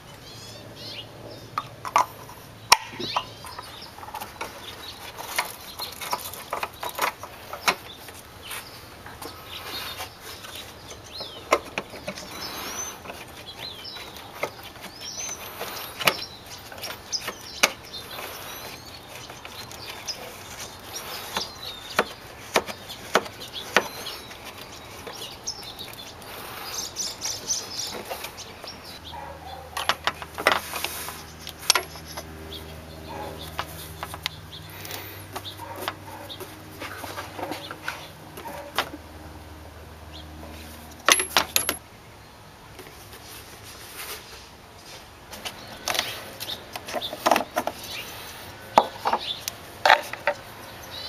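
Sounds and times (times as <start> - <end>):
birds chirping: 0.0 - 43.0, 44.8 - 51.0.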